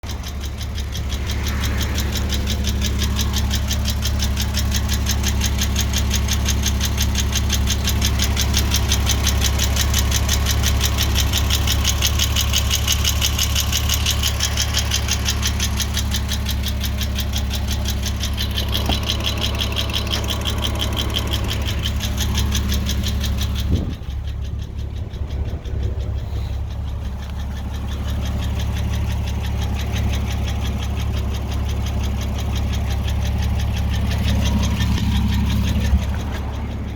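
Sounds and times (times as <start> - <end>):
car engine idling: 0.0 - 36.9
fast engine ticking: 0.0 - 36.9.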